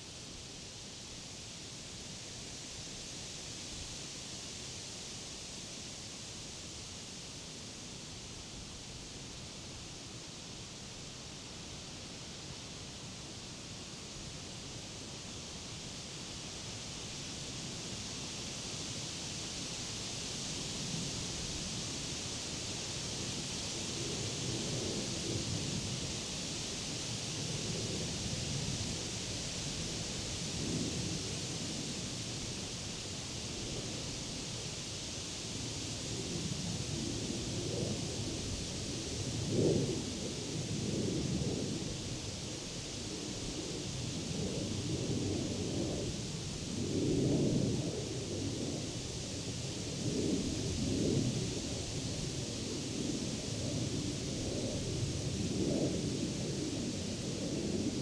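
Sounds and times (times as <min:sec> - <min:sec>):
wind rustling leaves: 0:00.0 - 0:58.0.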